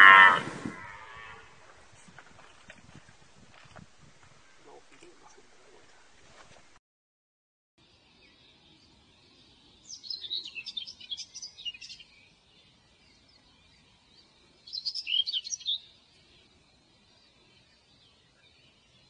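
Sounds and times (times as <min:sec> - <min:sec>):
birds chirping: 0:00.0 - 0:06.5, 0:07.8 - 0:19.0.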